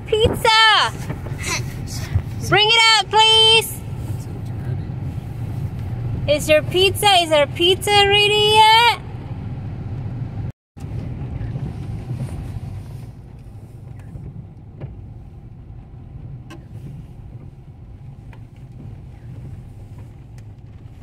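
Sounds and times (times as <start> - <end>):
car idling: 0.0 - 21.0.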